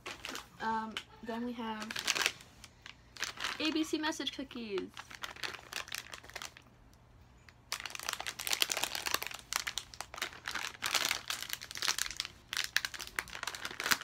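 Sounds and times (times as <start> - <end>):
plastic snack bag crinkling: 0.0 - 6.7, 7.5 - 14.0.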